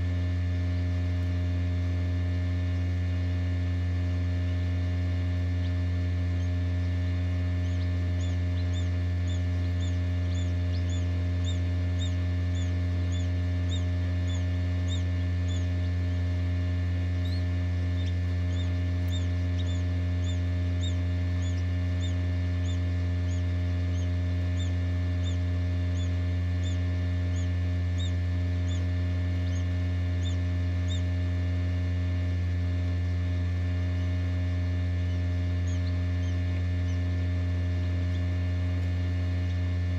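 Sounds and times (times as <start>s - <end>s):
incubator humming: 0.0s - 39.9s
quail chick peeping: 0.0s - 39.9s.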